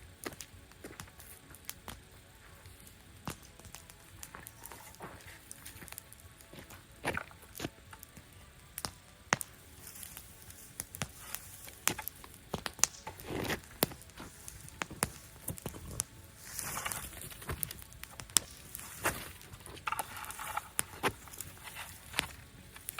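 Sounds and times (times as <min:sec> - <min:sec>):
campfire crackling and popping: 0:00.0 - 0:22.9
fire hissing: 0:00.0 - 0:22.9.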